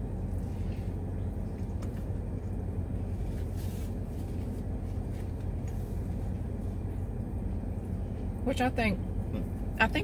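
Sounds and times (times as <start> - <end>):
car idling: 0.0 - 10.0.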